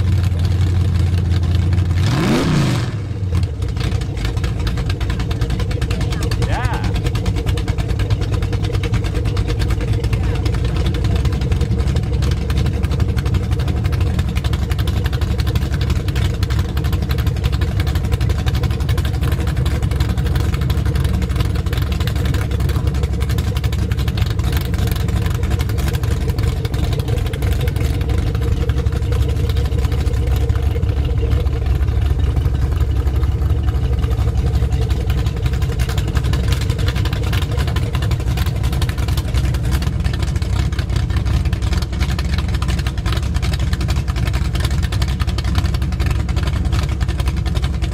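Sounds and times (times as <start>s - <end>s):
motorboat engine idling: 0.0s - 47.9s.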